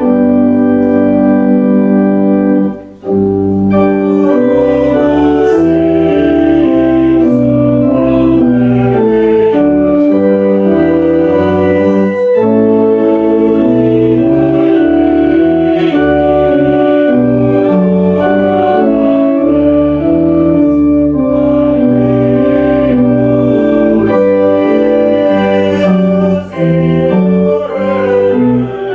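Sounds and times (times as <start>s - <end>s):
church organ playing a hymn: 0.0s - 28.9s.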